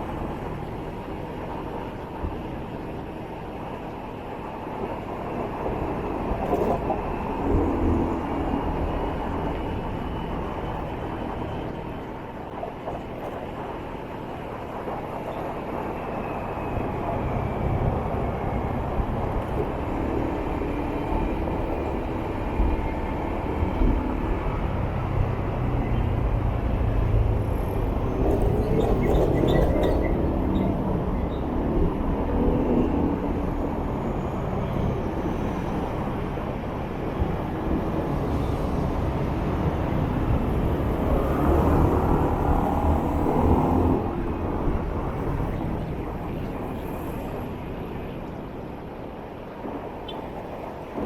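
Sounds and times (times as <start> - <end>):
tyres on road: 0.0 - 51.0.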